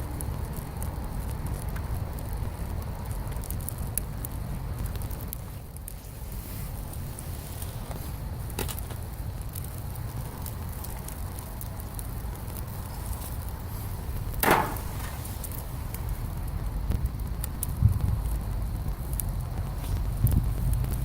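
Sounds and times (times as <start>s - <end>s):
bonfire crackling and popping: 0.0s - 21.0s
fire low rumble: 0.0s - 21.0s.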